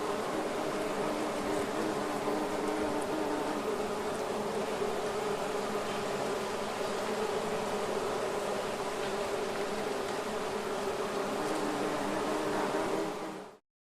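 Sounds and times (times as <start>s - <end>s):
bees buzzing: 0.0s - 13.6s.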